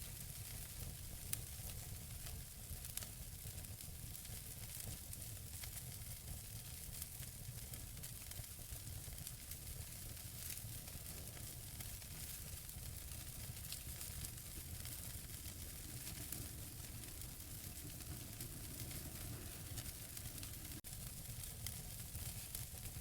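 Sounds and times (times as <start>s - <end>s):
wood fire hissing and crackling: 0.0s - 23.0s.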